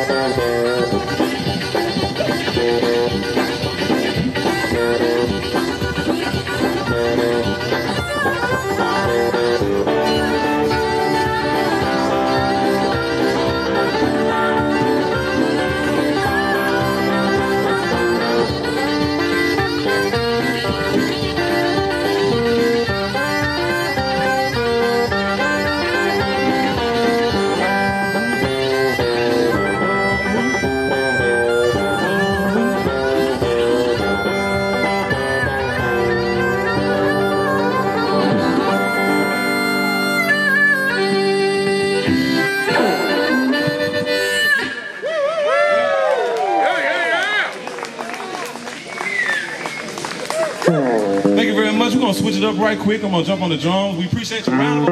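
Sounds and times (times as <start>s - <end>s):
blues harmonica: 0.0s - 45.4s, 49.0s - 54.9s
electric guitar accompaniment: 0.0s - 45.4s, 46.0s - 54.9s.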